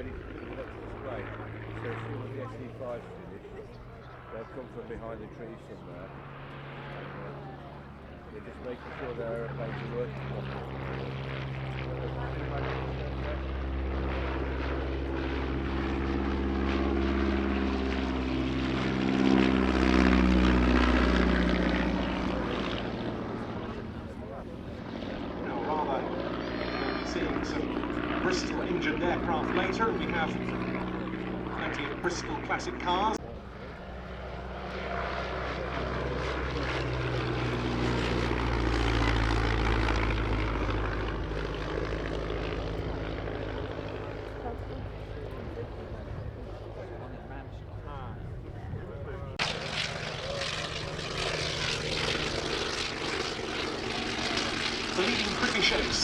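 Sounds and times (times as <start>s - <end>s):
biplane engine and propeller passing: 0.0s - 56.0s.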